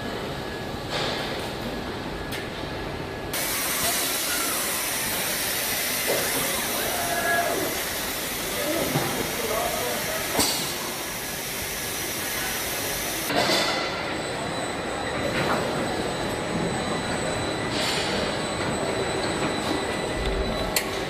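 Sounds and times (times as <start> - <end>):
high machine whine: 0.0 - 21.0
machinery hiss and hum: 0.0 - 21.0.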